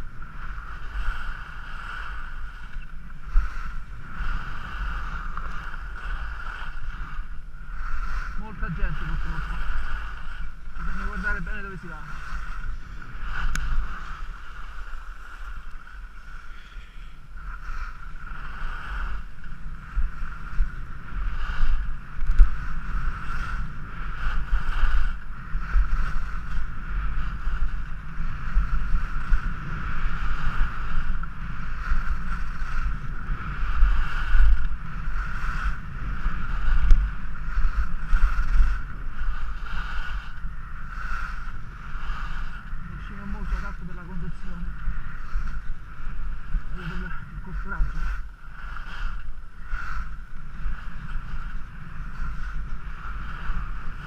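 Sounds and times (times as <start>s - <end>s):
skis scraping over snow: 0.0s - 54.0s
wind buffeting microphone: 0.0s - 54.0s.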